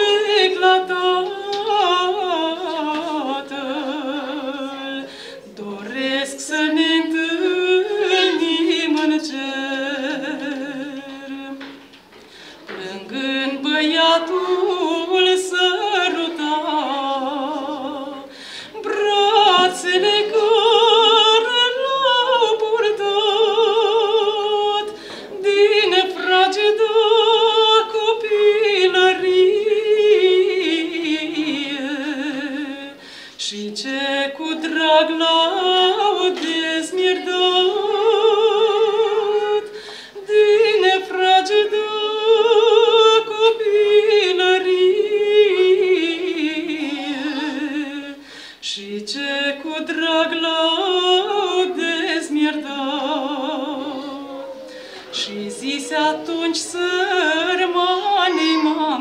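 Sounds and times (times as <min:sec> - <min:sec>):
woman singing unaccompanied: 0:00.0 - 0:11.9, 0:12.6 - 0:59.0.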